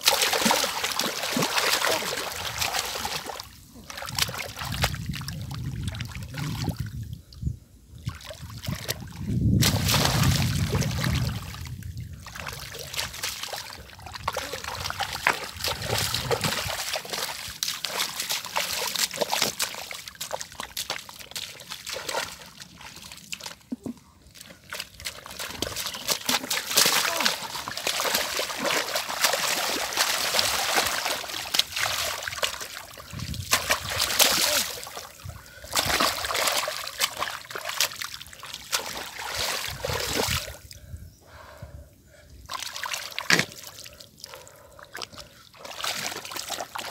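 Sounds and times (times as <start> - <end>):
legs wading in mud: 0.0 - 6.6, 8.1 - 40.7, 42.5 - 46.9
muddy water splashing: 0.0 - 7.2, 8.0 - 41.4, 42.1 - 46.9.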